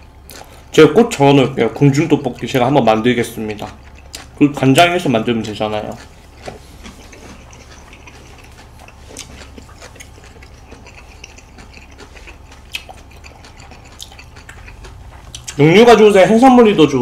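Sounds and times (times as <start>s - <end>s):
low steady hum: 0.0s - 17.0s
people chewing food: 0.0s - 17.0s.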